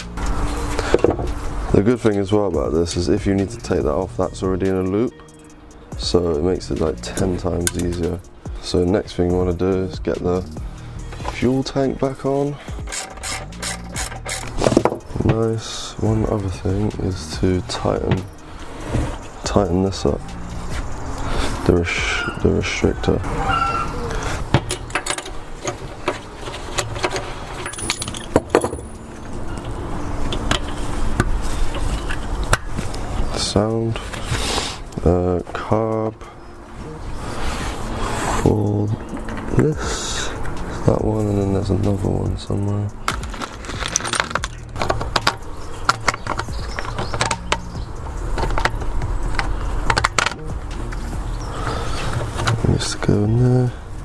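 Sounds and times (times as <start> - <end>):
hand tools clinking on metal: 0.0 - 54.0.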